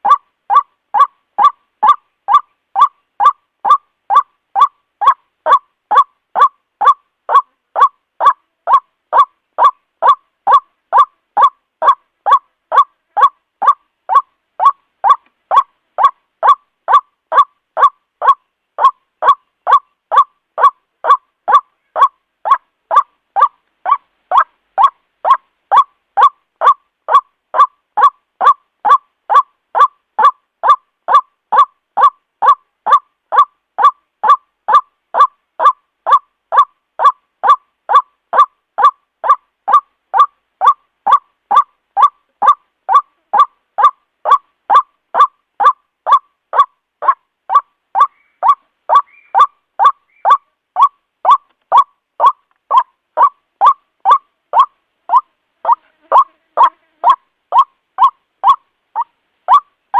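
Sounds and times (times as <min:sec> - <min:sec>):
waterhen harsh kwak call: 0:00.0 - 0:59.7.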